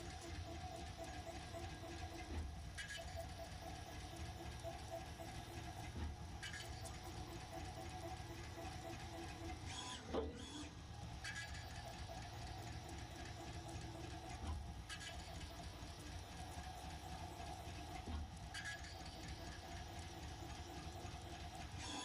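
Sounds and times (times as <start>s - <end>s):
machine motor hum: 0.0s - 22.0s.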